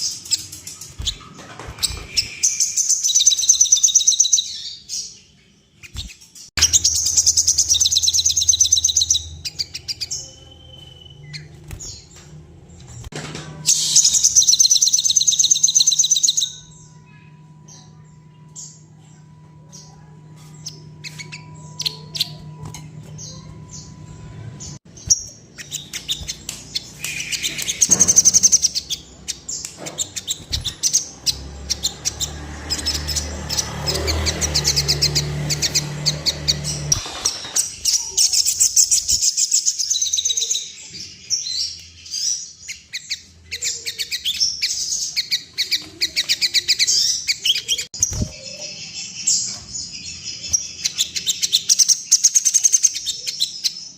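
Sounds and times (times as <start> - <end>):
bird chirping and twittering: 0.0 - 53.9.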